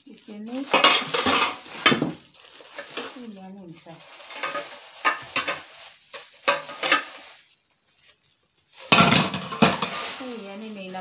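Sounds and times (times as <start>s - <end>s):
plastic wrapping crinkling: 0.0s - 11.0s
pots clattering: 0.1s - 7.5s, 8.7s - 11.0s.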